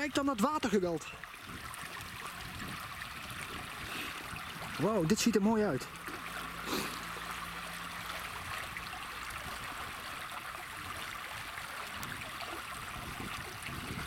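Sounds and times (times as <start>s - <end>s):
water pouring over weir: 0.0s - 14.0s.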